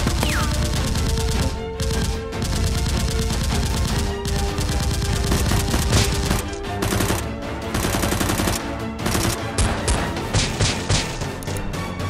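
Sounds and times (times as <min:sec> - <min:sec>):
automatic gunfire sound effects: 0:00.0 - 0:11.2
background music: 0:00.0 - 0:12.0.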